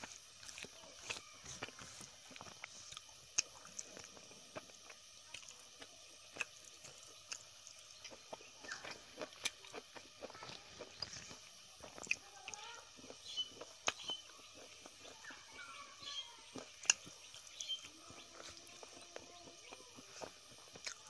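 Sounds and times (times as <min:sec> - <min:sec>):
wet chewing clicks: 0:00.0 - 0:21.0.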